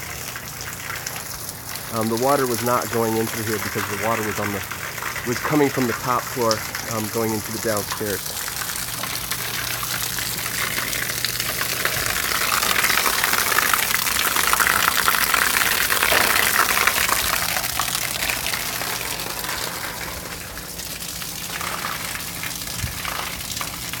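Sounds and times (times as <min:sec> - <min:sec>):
water splashing off roof: 0:00.0 - 0:24.0.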